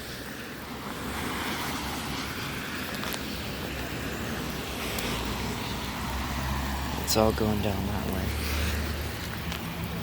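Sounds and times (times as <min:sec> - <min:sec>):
rain and water runoff: 0:00.0 - 0:10.0.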